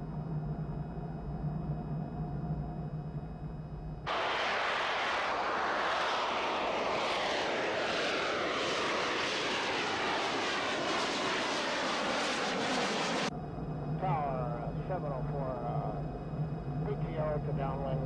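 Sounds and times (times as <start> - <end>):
jet engine roaring with whine: 0.0 - 18.0.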